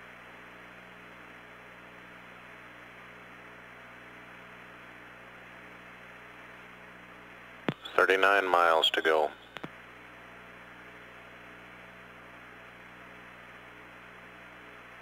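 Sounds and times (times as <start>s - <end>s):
radio hiss and hum: 1.5s - 15.0s.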